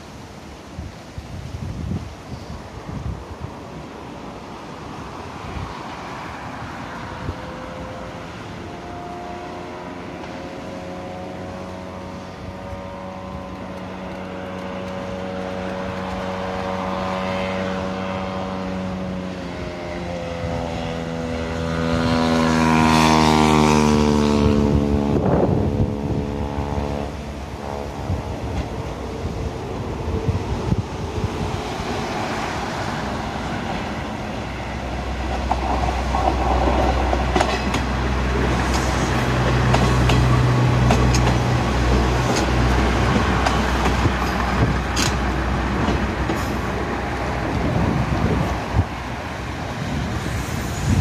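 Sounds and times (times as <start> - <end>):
diesel railcar engine drone: 0.0 - 51.0
gusting wind: 0.0 - 51.0.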